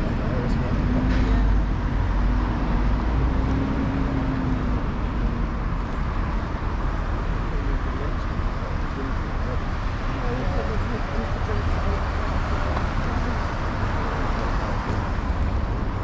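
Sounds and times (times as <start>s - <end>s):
street noise: 0.0s - 16.0s
vehicle engine rumbling: 0.0s - 16.0s.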